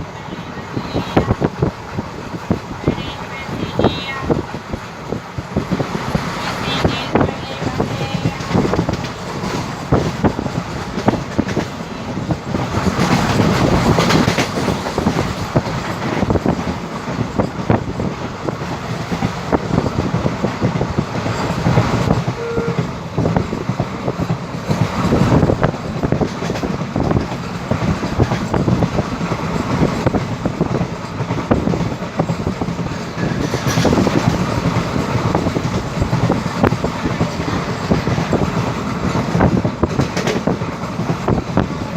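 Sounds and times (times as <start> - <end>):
train coaches rushing past: 0.0 - 41.9
wheels clacking over rail joints: 4.2 - 41.9.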